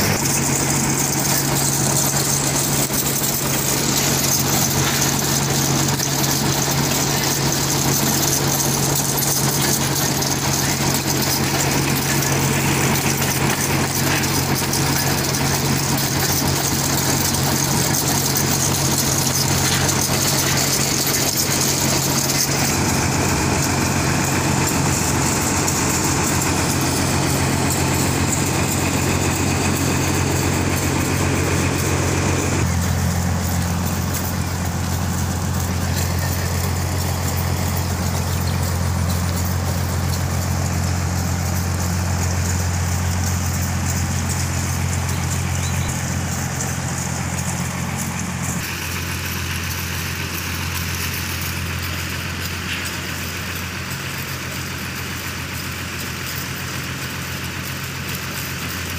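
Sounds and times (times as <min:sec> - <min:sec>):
drilling rig engine drone: 0:00.0 - 0:58.9.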